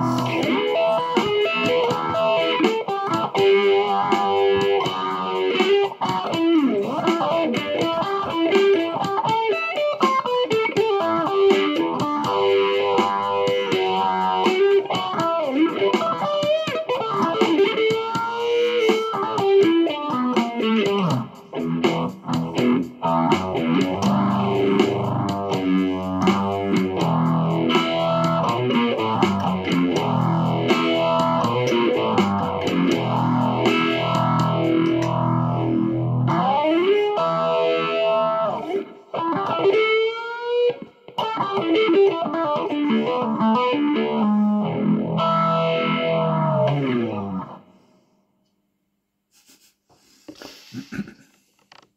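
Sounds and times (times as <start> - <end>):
overdriven electric guitar: 0.0 - 48.0.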